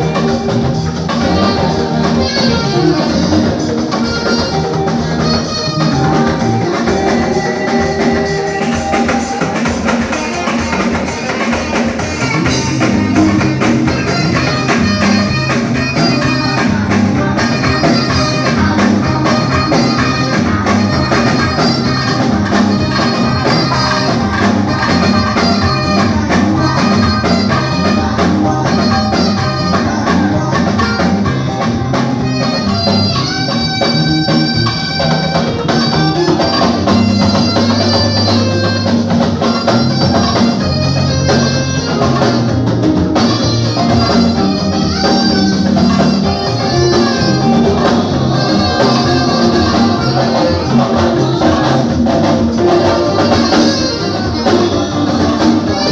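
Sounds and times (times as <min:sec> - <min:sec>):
bass line: 0:00.0 - 0:55.9
drum kit: 0:00.0 - 0:55.9.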